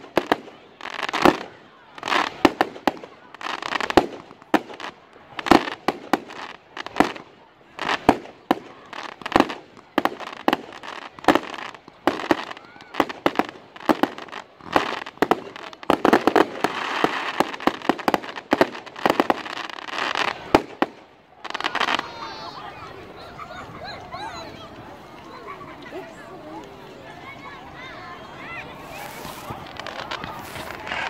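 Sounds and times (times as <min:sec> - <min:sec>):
firework crackling: 0:00.0 - 0:22.5, 0:28.6 - 0:31.0.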